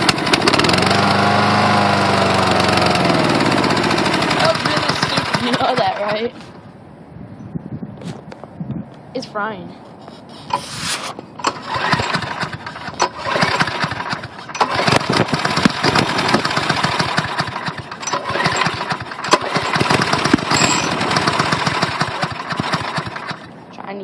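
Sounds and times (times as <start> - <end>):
lawn mower engine running: 0.0 - 6.7, 10.0 - 23.7.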